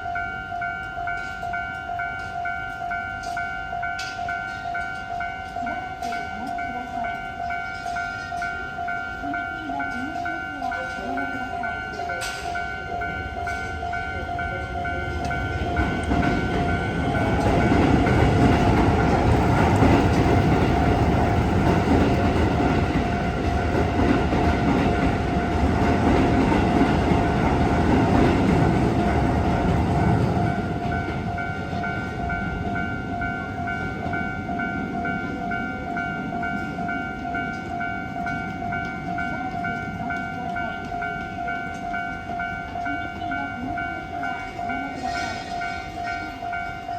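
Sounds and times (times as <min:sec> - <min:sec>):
level crossing bell ringing: 0:00.0 - 0:46.9
train rumble and wheel noise: 0:00.0 - 0:46.9.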